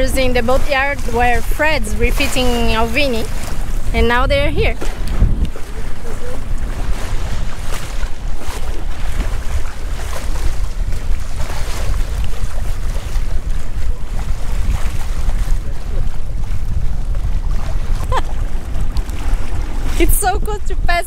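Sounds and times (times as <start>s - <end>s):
water washing along hull: 0.0s - 21.0s
wind buffeting microphone: 0.0s - 21.0s.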